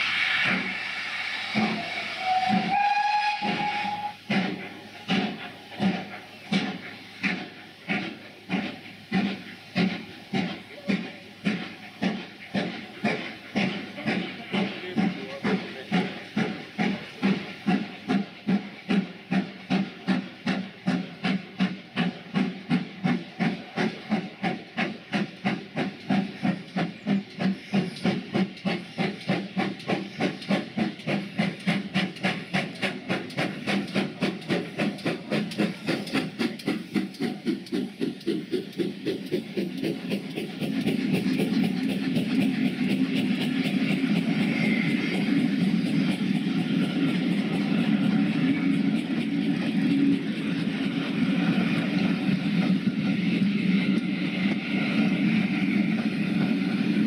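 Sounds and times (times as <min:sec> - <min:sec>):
steam locomotive chuffing: 0:00.0 - 0:57.0.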